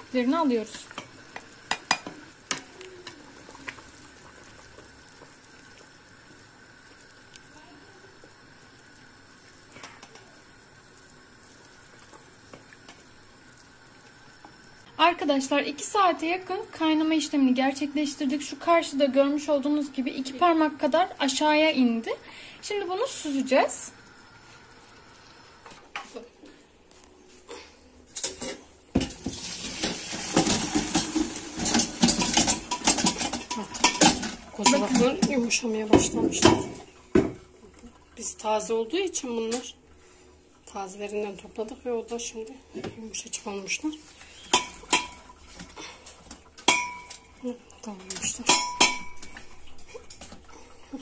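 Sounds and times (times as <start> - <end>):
water bubbling in a pot: 0.0 - 26.8, 28.0 - 51.0.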